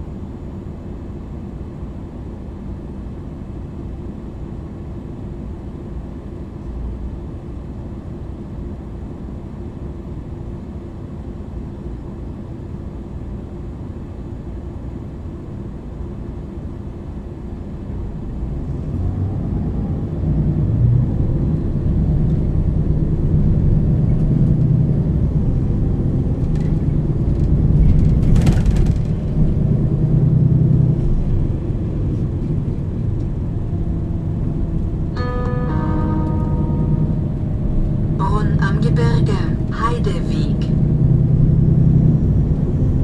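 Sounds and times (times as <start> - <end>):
bus diesel engine rumble: 0.0 - 43.0.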